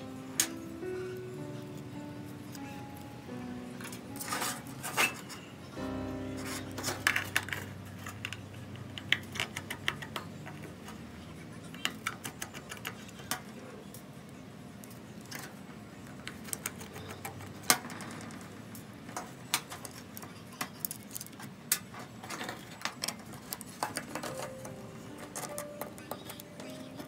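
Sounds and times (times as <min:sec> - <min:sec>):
hand tools clicking and tapping: 0:00.0 - 0:14.0, 0:14.8 - 0:27.0.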